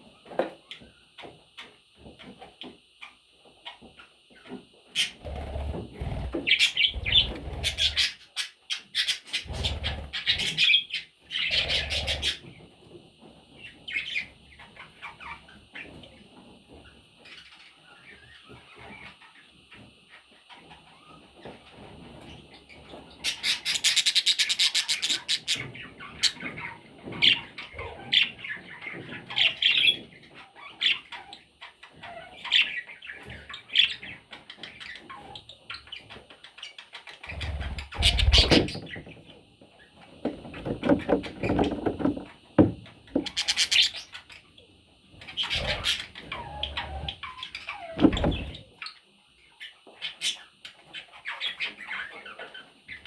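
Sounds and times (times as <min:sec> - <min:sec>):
bird chicks chirping: 0:03.0 - 0:53.0.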